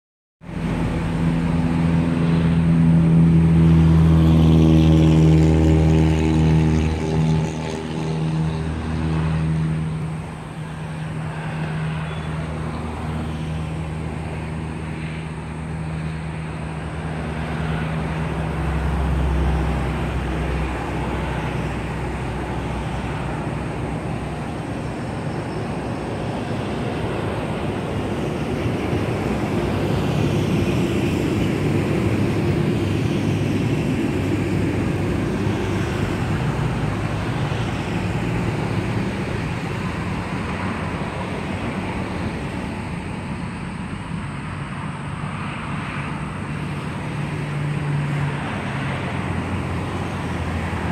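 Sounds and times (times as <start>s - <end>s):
traffic driving past at speed: 0.4s - 50.9s.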